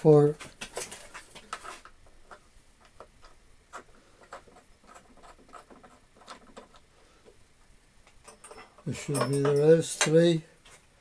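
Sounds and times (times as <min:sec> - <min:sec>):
small metal clicks and scraping: 0:00.4 - 0:06.9, 0:08.0 - 0:10.8.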